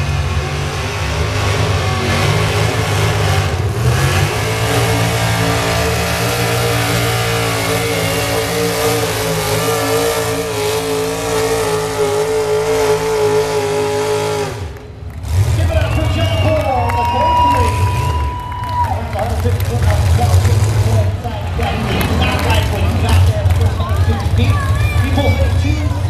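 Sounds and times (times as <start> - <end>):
truck engine running under load: 0.0 - 26.0.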